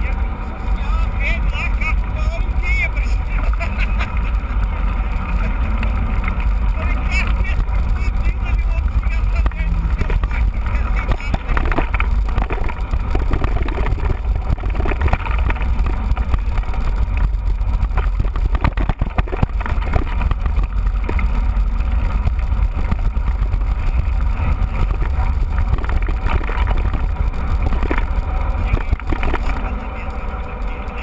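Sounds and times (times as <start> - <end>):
wind buffeting microphone: 0.0 - 30.8
deep rumble of bike on trail: 0.0 - 31.0.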